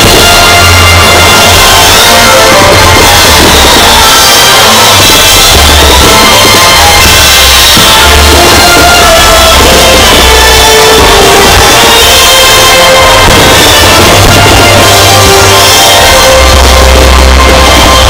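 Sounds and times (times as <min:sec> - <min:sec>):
loud music with drums and bass: 0:00.0 - 0:18.0.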